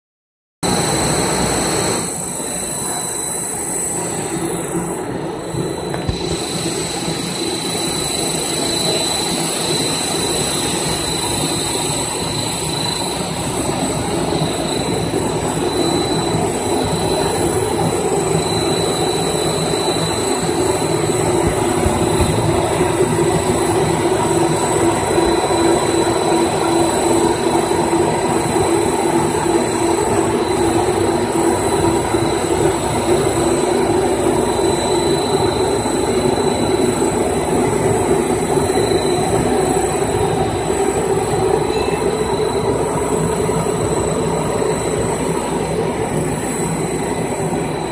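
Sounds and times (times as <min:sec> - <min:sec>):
constant high machine whines: 0:00.6 - 0:47.9
steady mechanical noise: 0:00.6 - 0:47.9.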